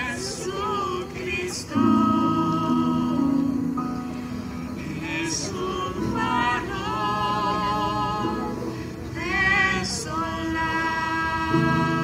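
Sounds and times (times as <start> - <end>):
sustained keyboard accompaniment: 0.0 - 12.0
women singing slow song: 0.0 - 12.0.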